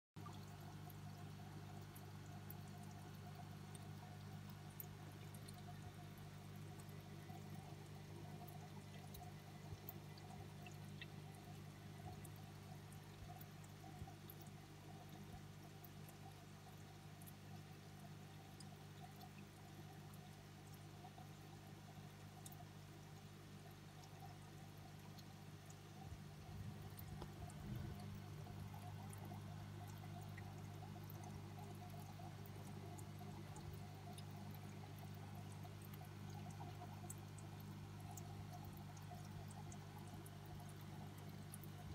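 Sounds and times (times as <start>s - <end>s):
aquarium water trickling: 0.2s - 41.9s
steady low hum: 0.2s - 41.9s.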